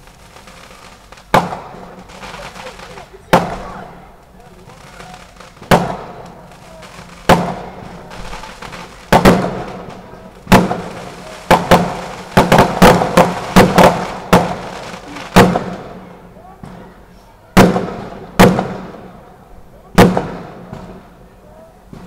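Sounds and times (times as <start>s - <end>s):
fireworks bangs echoing: 0.0s - 22.0s.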